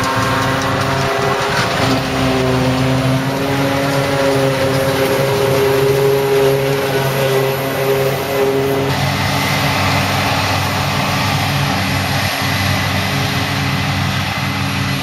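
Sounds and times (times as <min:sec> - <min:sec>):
diesel farm machinery running: 0:00.0 - 0:15.0.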